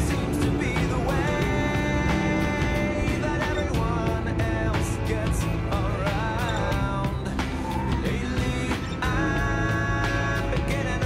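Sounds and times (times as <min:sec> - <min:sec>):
song with a steady beat: 0:00.0 - 0:11.0.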